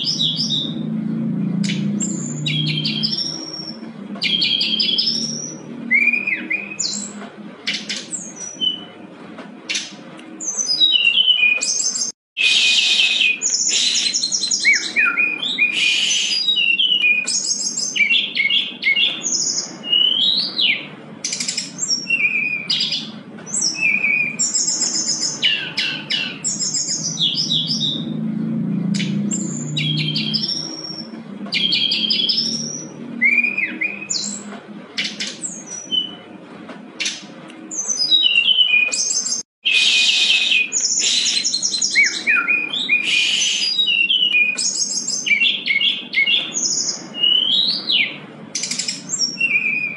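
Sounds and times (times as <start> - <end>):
bird singing trills and whistles: 0.0 - 0.9, 1.5 - 8.9, 9.7 - 28.2, 28.8 - 36.2, 37.0 - 49.9.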